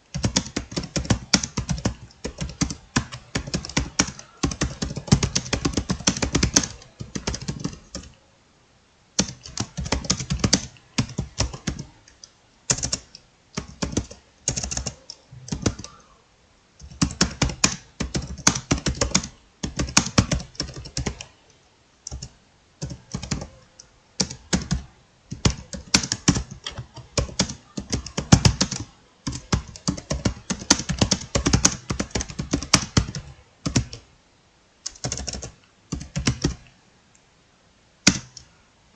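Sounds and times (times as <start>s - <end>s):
fast typing on laptop keyboard: 0.1s - 8.2s, 9.2s - 12.1s, 12.7s - 16.0s, 16.8s - 21.3s, 22.1s - 34.0s, 34.8s - 36.7s, 38.0s - 38.4s.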